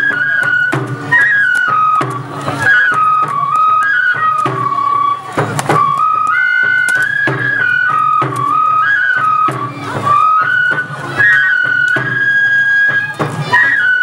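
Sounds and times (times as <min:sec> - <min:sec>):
flute melody: 0:00.0 - 0:14.0.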